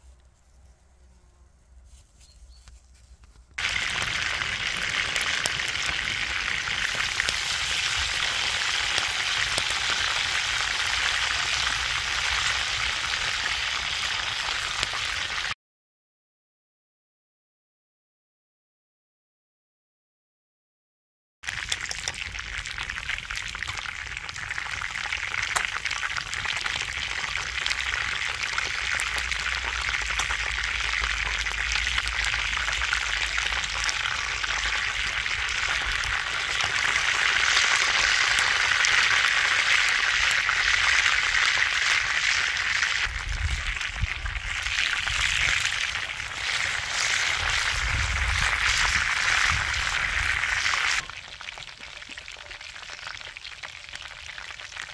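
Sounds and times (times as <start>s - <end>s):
chicken sizzling in hot oil: 3.6s - 15.6s, 21.4s - 54.9s.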